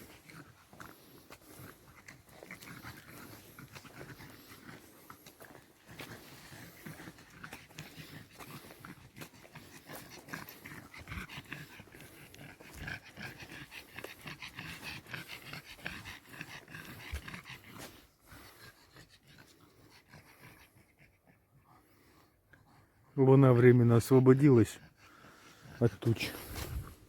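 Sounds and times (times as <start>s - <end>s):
dog panting: 0.0s - 27.0s.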